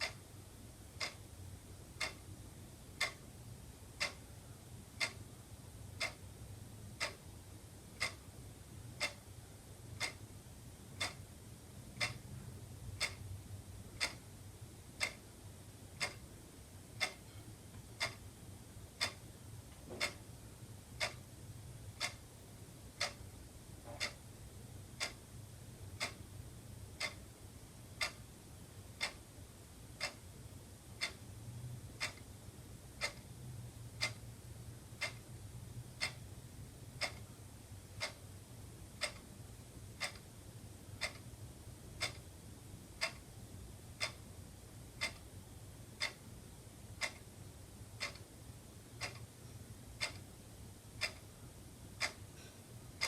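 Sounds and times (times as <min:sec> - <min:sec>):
wall clock ticking: 0:00.0 - 0:28.3, 0:28.9 - 0:29.3, 0:29.9 - 0:53.0.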